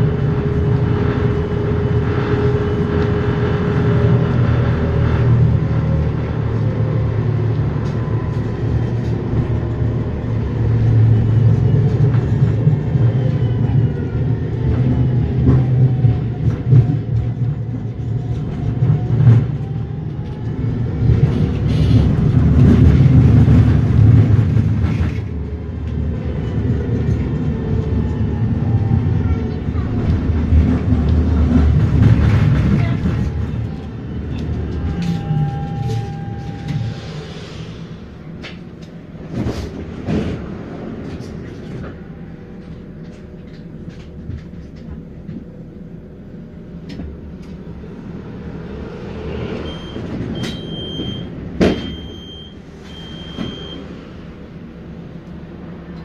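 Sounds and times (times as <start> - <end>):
tram wheels rumbling on rail: 0.0 - 56.0.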